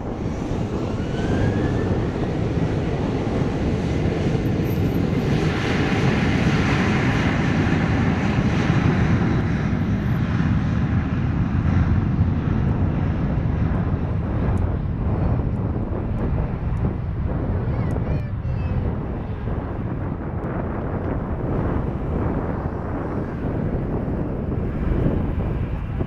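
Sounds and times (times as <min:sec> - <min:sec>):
jet engines of rolling airliner: 0:00.0 - 0:26.0.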